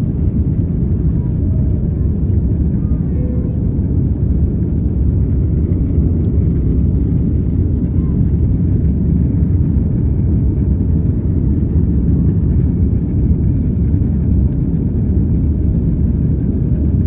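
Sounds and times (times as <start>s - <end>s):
jet airliner engine rumble: 0.0s - 17.0s.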